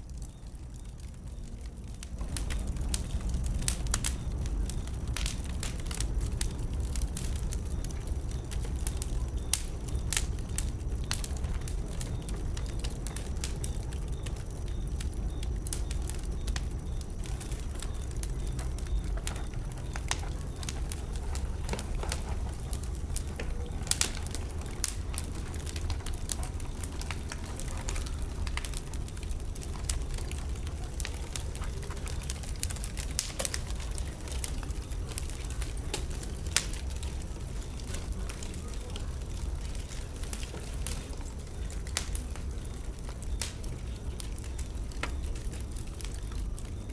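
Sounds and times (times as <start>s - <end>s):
bonfire crackling and popping: 0.0s - 46.9s
low fire rumble: 0.0s - 46.9s.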